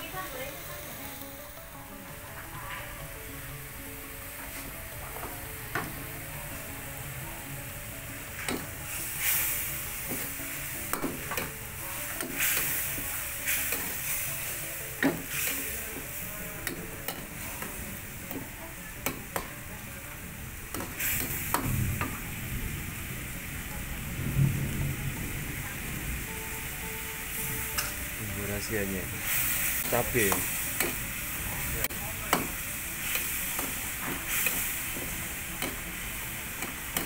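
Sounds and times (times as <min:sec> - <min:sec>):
meat sizzling in a wok: 0:00.0 - 0:37.0.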